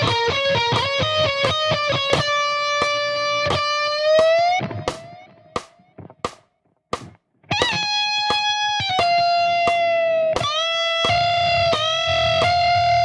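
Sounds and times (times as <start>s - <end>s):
electric guitar lead: 0.0s - 6.3s, 7.4s - 13.0s.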